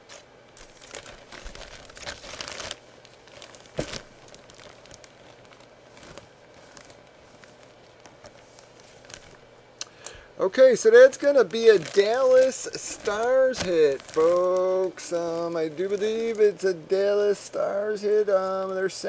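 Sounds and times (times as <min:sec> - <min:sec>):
plastic bag crinkling: 0:00.0 - 0:09.6, 0:10.8 - 0:19.0.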